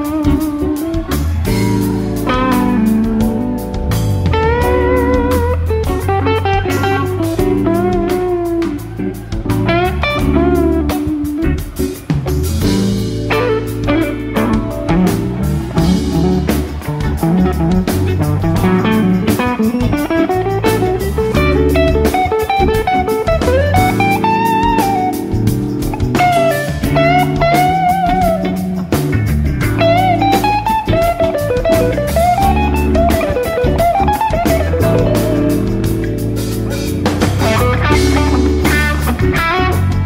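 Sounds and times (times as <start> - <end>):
bass guitar: 0.0 - 40.0
drums: 0.0 - 40.0
electric guitar lead line: 0.0 - 40.0.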